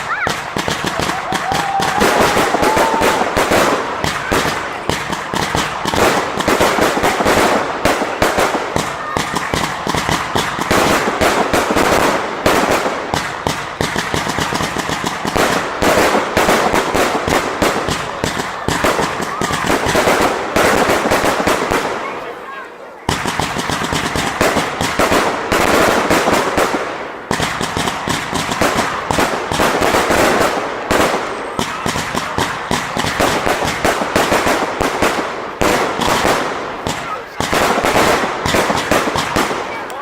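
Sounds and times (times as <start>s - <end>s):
fireworks barrage of cracks and bangs: 0.0s - 40.0s.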